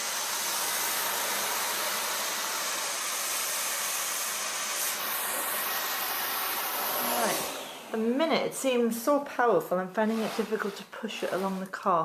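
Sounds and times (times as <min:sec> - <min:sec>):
vacuum cleaner on carpet: 0:00.0 - 0:12.0.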